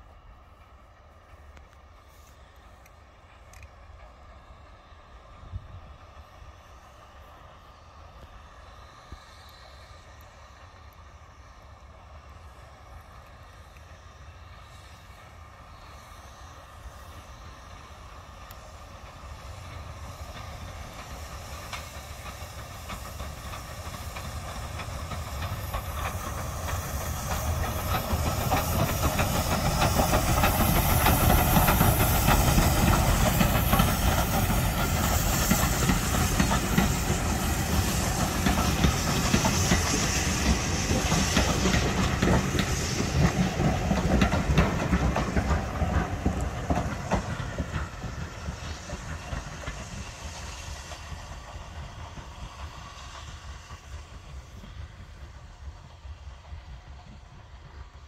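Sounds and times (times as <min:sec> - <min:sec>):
steam hiss: 0:00.0 - 0:58.0
wheels rattling on rail: 0:00.0 - 0:58.0.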